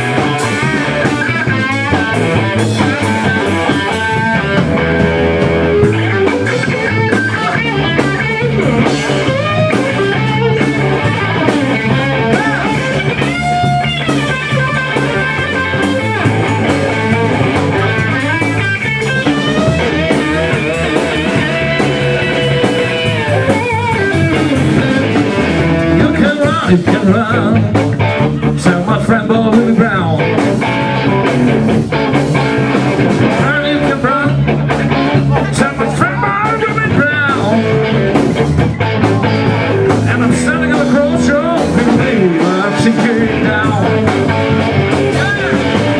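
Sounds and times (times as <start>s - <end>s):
lead guitar bent notes: 0.0s - 45.9s
rock band playing: 0.0s - 45.9s.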